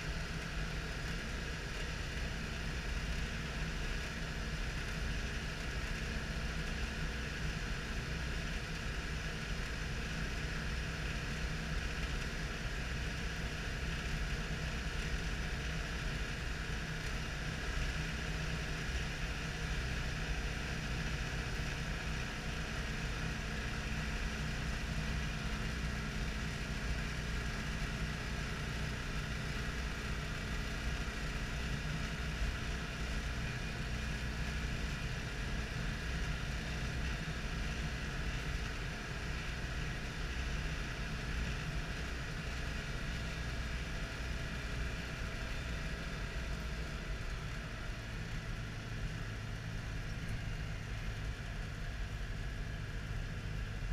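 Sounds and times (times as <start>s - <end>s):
car engine running steadily: 0.0s - 53.9s
road noise: 0.0s - 53.9s.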